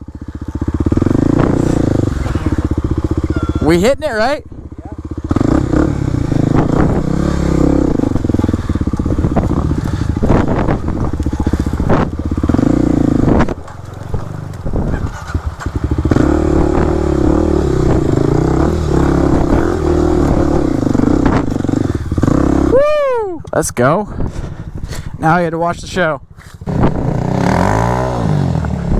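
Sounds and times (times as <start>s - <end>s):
dirt bike engine running: 0.0s - 28.9s.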